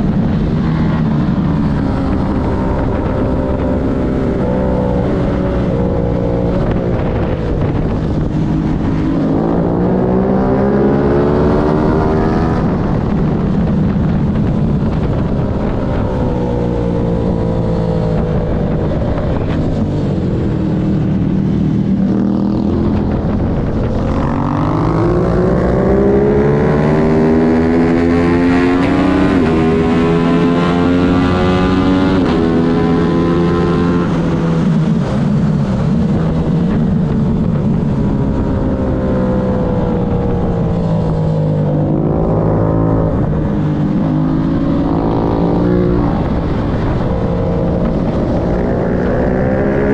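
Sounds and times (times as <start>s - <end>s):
racing motorcycle engine revving: 0.0s - 49.9s
wind rush: 0.0s - 49.9s.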